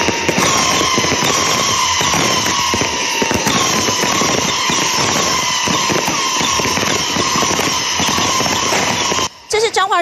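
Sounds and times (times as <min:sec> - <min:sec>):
falling firework whistles: 0:00.0 - 0:10.0
fireworks crackling and popping: 0:00.0 - 0:10.0.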